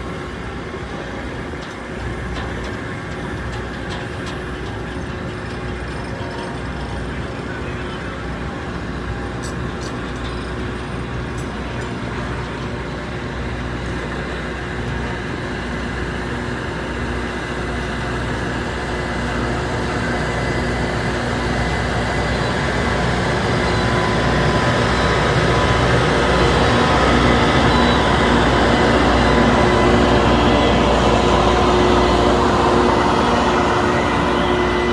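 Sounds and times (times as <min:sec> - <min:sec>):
rail grinder running: 0:00.0 - 0:34.9.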